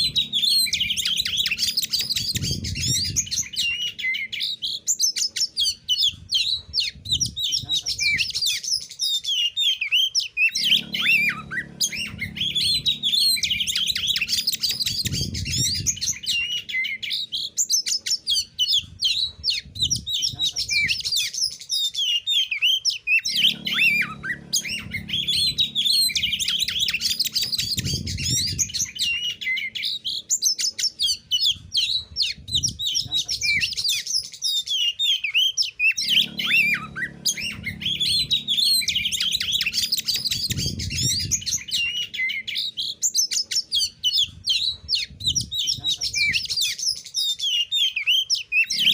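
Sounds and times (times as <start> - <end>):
bird singing chirps and whistles: 0.0 - 48.9.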